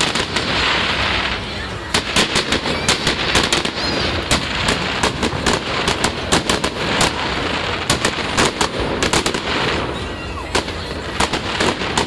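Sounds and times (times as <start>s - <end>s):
continuous hiss: 0.0s - 12.0s
fireworks bangs and cracks: 0.0s - 12.0s.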